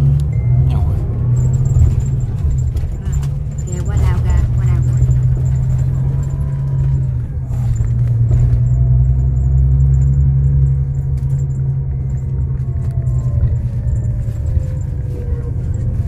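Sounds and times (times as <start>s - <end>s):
bus engine rumble: 0.0s - 16.0s
road noise: 0.0s - 16.0s.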